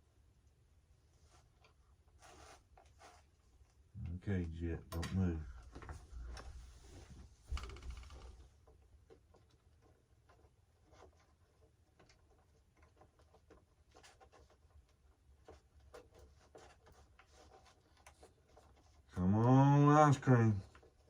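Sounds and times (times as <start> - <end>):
faint handling clicks and rustles: 0.4 - 21.0.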